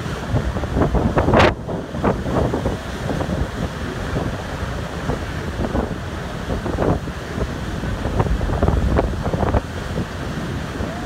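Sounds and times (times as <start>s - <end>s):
churning water from propellers: 0.0s - 11.0s
wind buffeting microphone: 0.0s - 11.0s.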